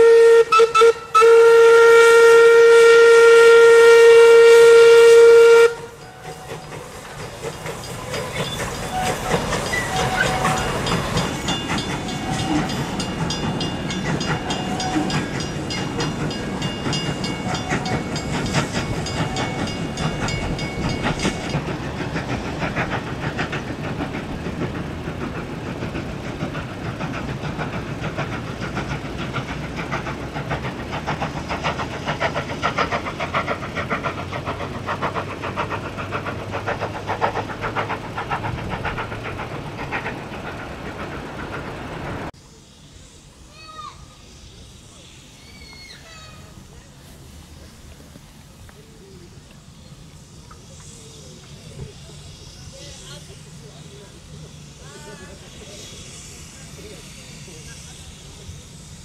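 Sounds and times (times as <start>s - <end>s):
distant steam locomotive working: 0.0s - 59.0s.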